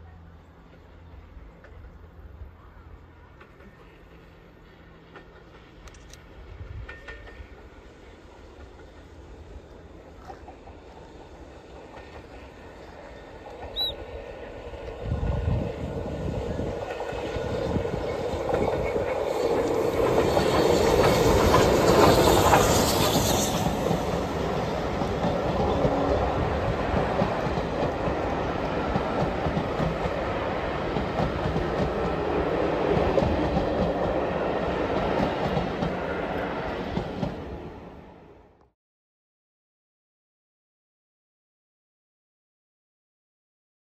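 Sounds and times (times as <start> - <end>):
steam locomotive passing: 0.0 - 38.6
train coaches rolling past: 0.0 - 38.6.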